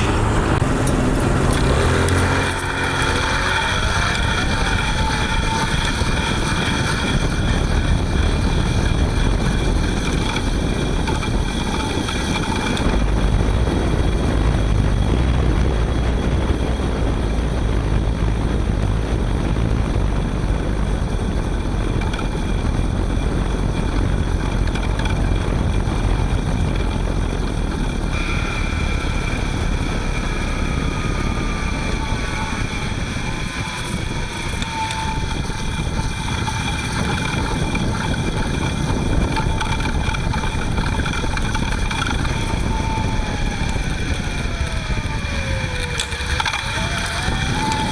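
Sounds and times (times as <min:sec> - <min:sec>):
electric hub motor whining: 0:00.0 - 0:47.9
road rumble: 0:00.0 - 0:47.9
wind: 0:00.0 - 0:47.9.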